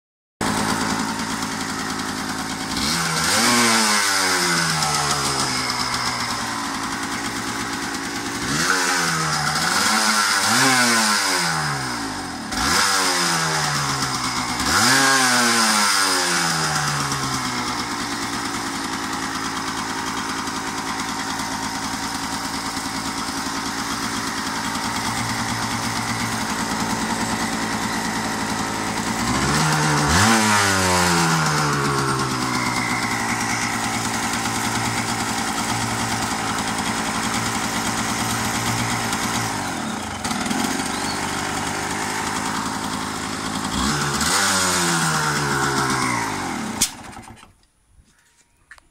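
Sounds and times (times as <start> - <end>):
two-stroke engine idling and revving: 0.4 - 47.5.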